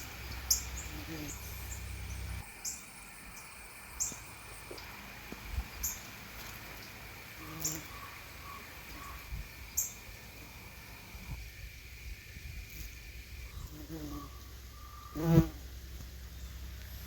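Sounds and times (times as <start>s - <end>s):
songbird chirping: 0.0s - 11.3s, 13.0s - 17.0s.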